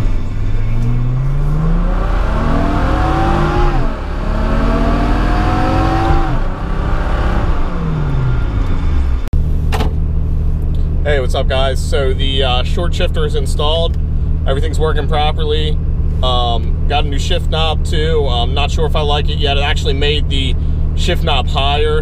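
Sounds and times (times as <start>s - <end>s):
car engine revving: 0.0s - 21.8s.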